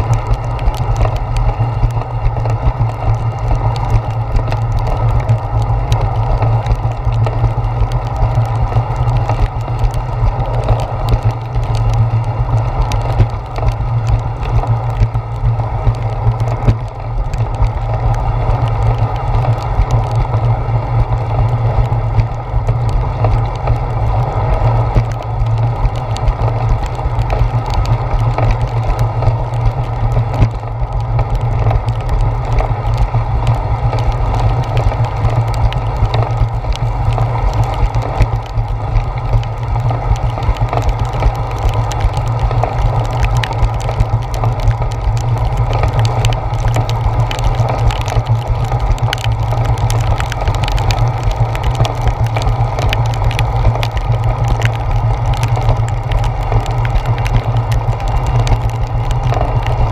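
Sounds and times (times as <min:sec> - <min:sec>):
bicycle rolling over wet pavement: 0:00.0 - 0:59.9
small ticks: 0:00.0 - 0:59.9.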